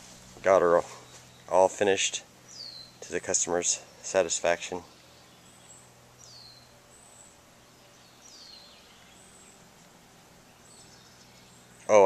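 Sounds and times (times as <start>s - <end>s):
faint steady low hum: 0.0s - 12.0s.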